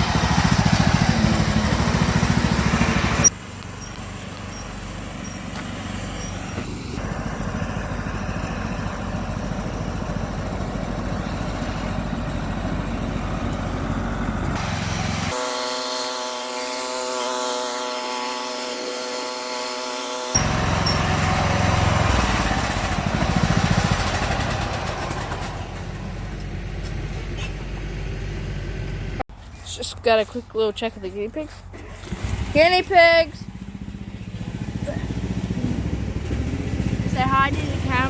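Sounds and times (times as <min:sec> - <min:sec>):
engine running: 0:00.0 - 0:38.0.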